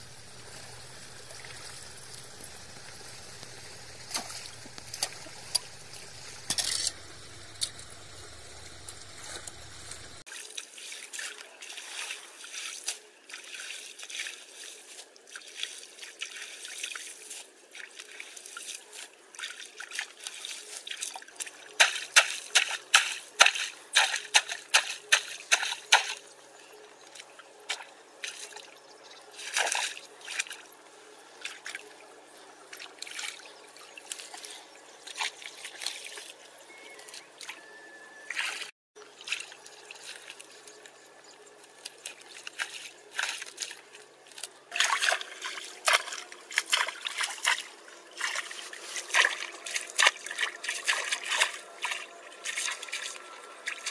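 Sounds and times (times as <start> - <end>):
water trickling and splashing: 0.0 - 6.6, 10.2 - 37.6, 38.4 - 53.9.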